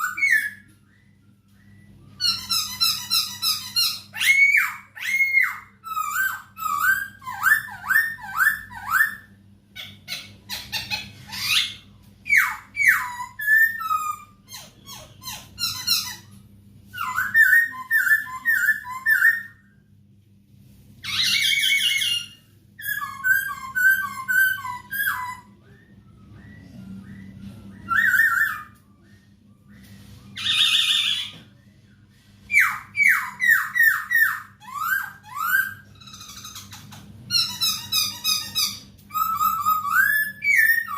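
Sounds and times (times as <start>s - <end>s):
bird singing: 0.0s - 19.8s, 21.0s - 31.6s, 32.5s - 40.9s
faint steady hum: 0.0s - 40.9s.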